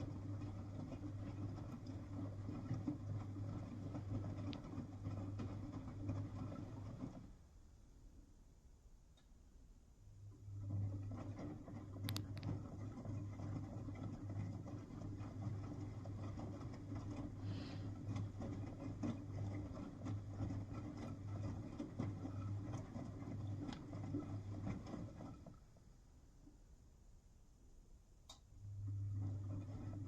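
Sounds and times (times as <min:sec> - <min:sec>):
washing machine motor hum: 0:00.0 - 0:07.8, 0:10.0 - 0:26.6, 0:28.3 - 0:30.0.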